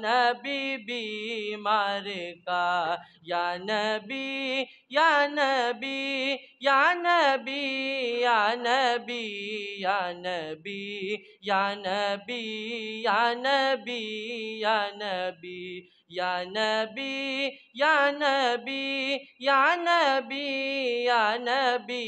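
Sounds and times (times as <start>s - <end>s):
young man singing: 0.0s - 22.0s.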